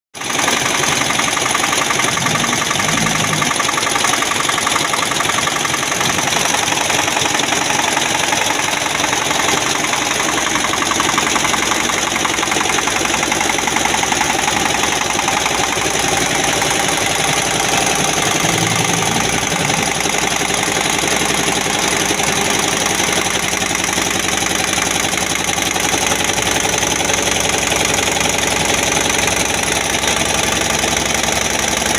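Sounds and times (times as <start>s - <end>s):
embroidery machine stitching: 0.2s - 31.9s.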